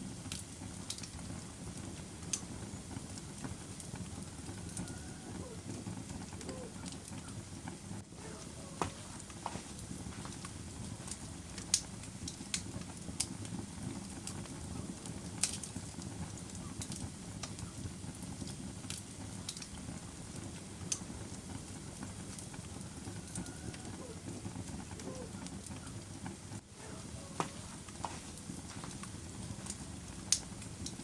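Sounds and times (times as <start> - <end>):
fire crackles and pops: 0.0 - 31.0
fire flames rumbling: 0.0 - 31.0.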